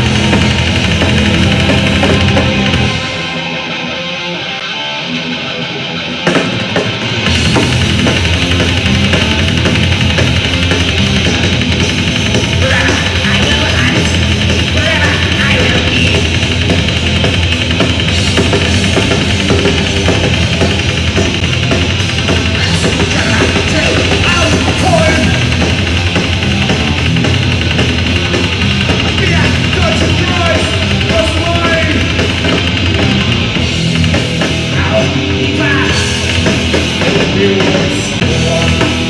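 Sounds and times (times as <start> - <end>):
black metal music with drums: 0.0 - 39.0.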